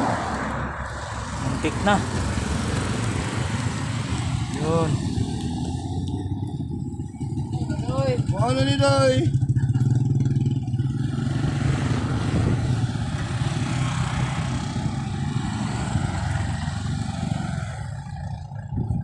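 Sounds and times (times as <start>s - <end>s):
road noise: 0.0s - 19.0s
vehicle engine passing by: 0.0s - 19.0s.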